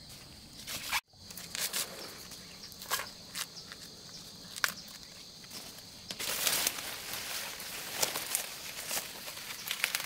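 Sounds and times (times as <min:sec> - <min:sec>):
dry vegetation rustling: 0:00.6 - 0:10.0.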